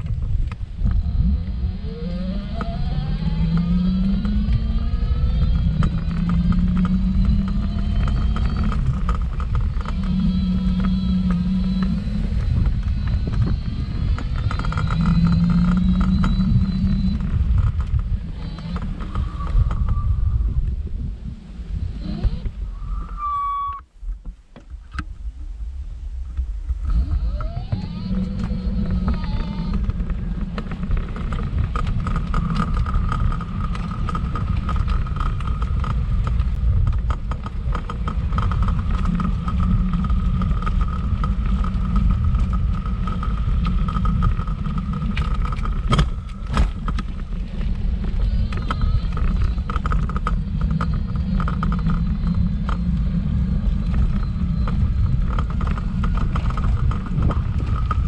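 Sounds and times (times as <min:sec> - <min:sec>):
small rattles: 0:00.0 - 0:20.4, 0:26.7 - 0:58.0
wheelchair wheels rumbling: 0:00.0 - 0:25.1, 0:26.2 - 0:58.0
high whine: 0:00.0 - 0:58.0.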